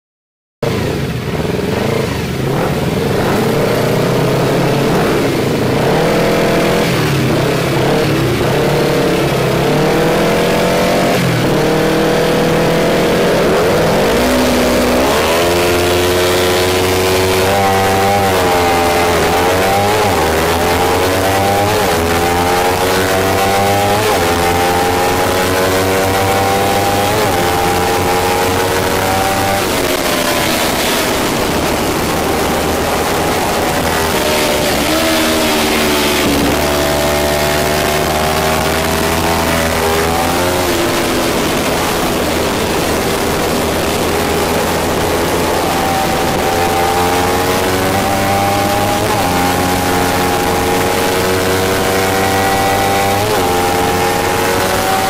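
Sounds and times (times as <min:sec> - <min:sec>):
motorcycle engine revving: 0:00.6 - 0:55.0.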